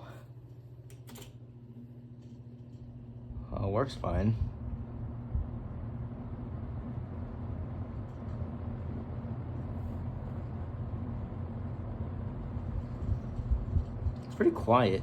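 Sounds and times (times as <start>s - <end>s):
box fan running: 0.0s - 15.0s.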